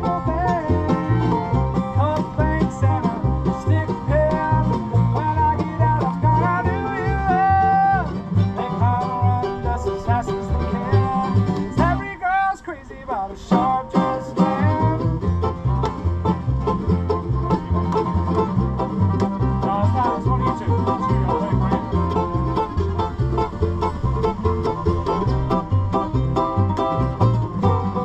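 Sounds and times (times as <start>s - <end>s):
banjo picking: 0.0s - 28.0s
bluegrass band playing: 0.0s - 28.0s.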